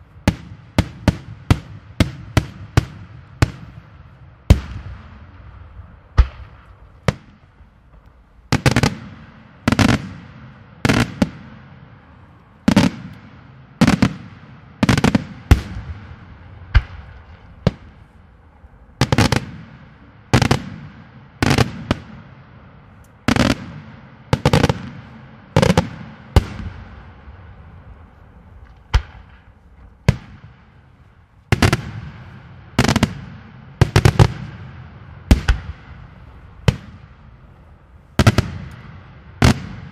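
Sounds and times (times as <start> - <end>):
fireworks bursting with echo: 0.0 - 39.9.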